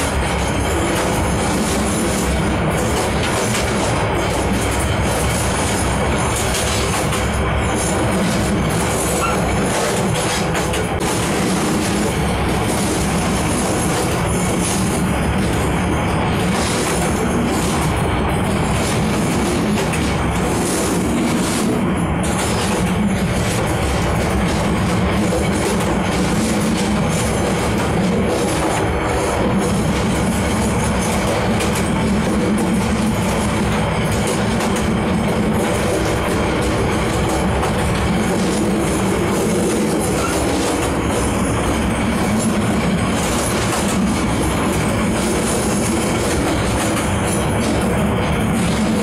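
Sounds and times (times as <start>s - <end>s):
train carriage rumbling and rattling: 0.0s - 49.0s.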